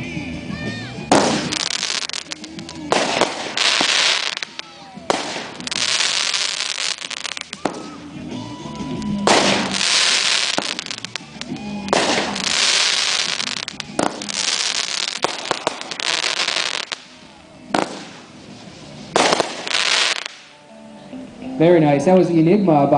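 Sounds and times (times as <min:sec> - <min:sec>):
firework shots: 0:01.0 - 0:08.2, 0:09.1 - 0:20.6
firework stars crackling: 0:01.0 - 0:20.6.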